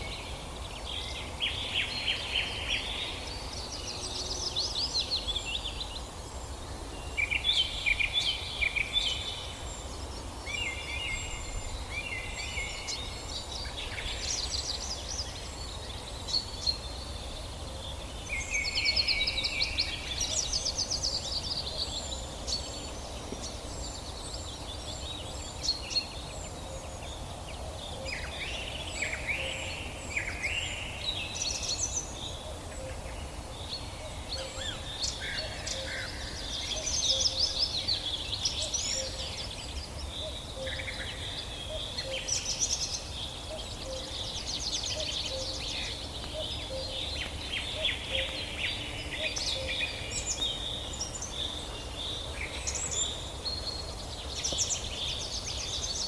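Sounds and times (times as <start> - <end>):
birds singing and chirping: 0.0 - 56.0
faint steady hiss: 0.0 - 56.0.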